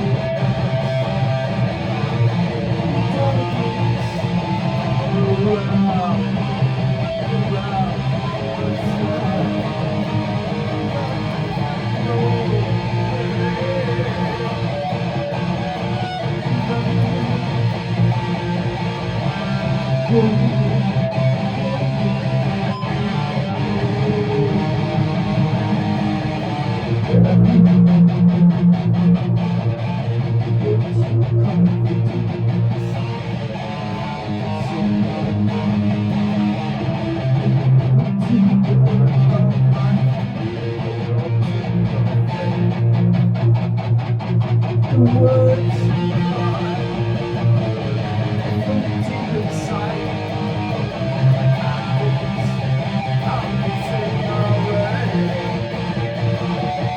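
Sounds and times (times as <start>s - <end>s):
guitar strumming chords: 0.0s - 56.9s.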